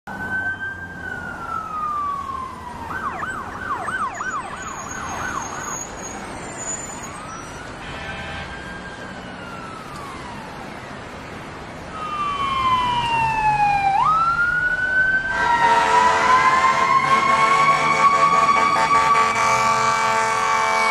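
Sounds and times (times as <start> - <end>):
emergency vehicle siren: 0.1 - 20.9.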